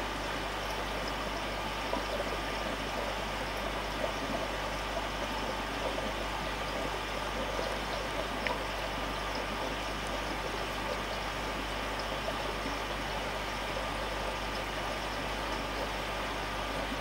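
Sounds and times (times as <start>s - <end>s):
aquarium air stone bubbling: 0.0s - 17.0s.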